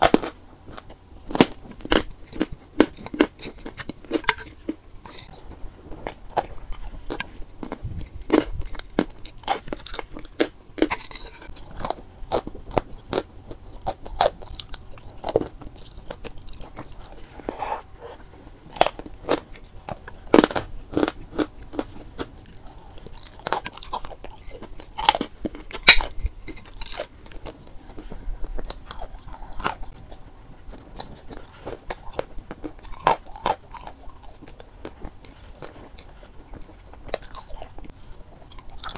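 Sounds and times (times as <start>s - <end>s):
chalk being chewed: 2.2s - 38.9s.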